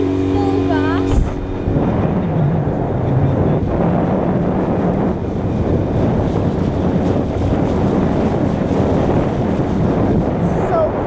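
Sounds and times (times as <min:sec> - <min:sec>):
outboard motor running: 0:00.0 - 0:11.0
water rushing past hull: 0:00.0 - 0:11.0
wind buffeting microphone: 0:00.0 - 0:11.0.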